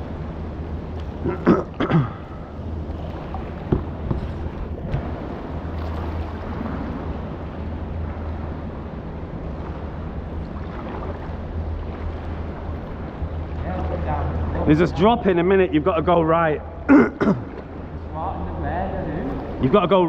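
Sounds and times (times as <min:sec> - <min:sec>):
constant low rumble: 0:00.0 - 0:20.0.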